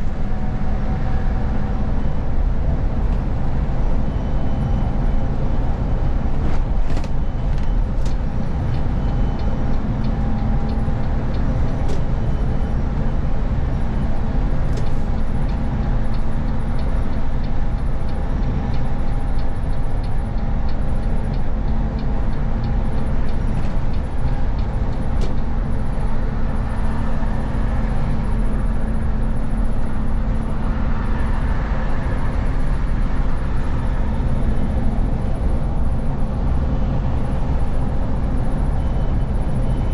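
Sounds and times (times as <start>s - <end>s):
bus engine and tyres: 0.0s - 39.9s.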